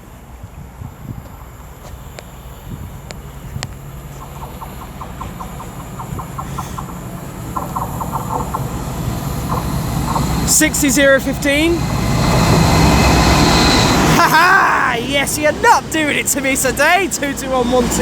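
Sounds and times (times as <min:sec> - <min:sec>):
diesel locomotive engine rumble: 0:00.0 - 0:18.0
wheels clicking over rail joints: 0:00.0 - 0:18.0.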